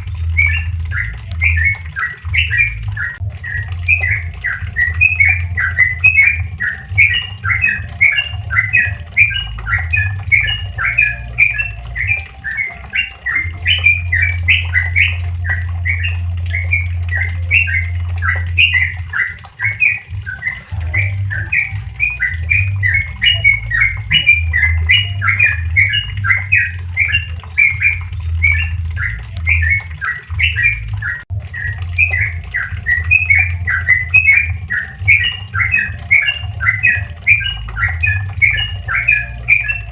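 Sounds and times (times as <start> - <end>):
bulbul singing bubbly notes: 0.0 - 39.9.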